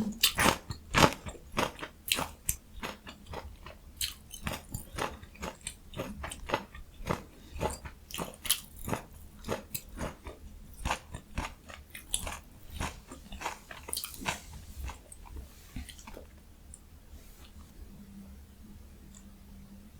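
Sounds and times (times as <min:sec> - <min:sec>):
chewing crisp food: 0:00.2 - 0:17.7.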